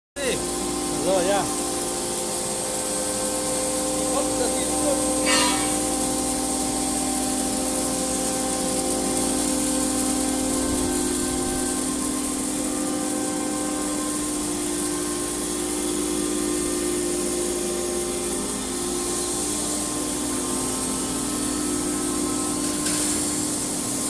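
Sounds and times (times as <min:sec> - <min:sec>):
cnc router whine: 0:00.2 - 0:24.0.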